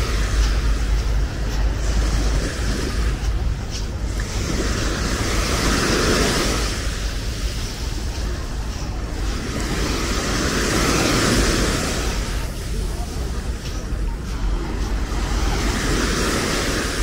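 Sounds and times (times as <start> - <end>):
sea waves breaking on shore: 0.0 - 17.0
wind rumbling on microphone: 0.0 - 17.0.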